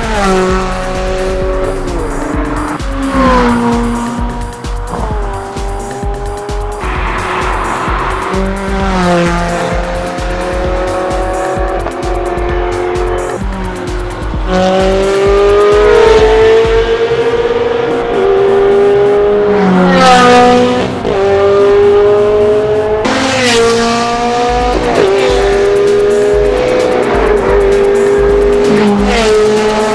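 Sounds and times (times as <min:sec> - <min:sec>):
sports car engines revving: 0:00.0 - 0:29.9.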